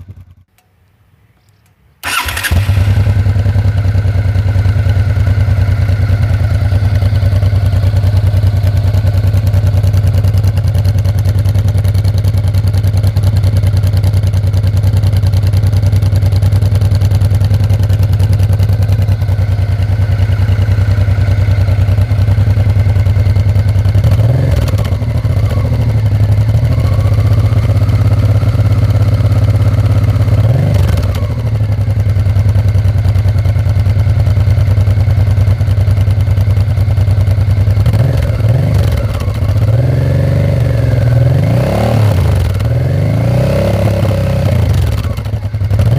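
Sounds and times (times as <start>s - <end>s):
motorcycle engine idling: 0.0s - 0.6s, 1.4s - 45.9s.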